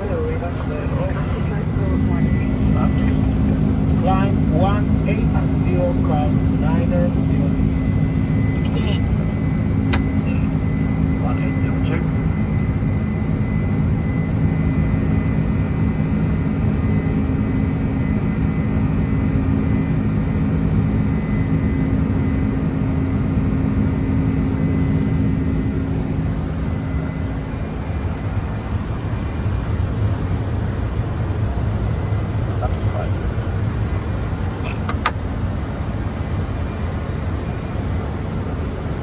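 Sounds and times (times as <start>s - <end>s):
airflow in cockpit: 0.0s - 39.0s
jet engine drone: 0.0s - 39.0s
low hum: 0.0s - 39.0s.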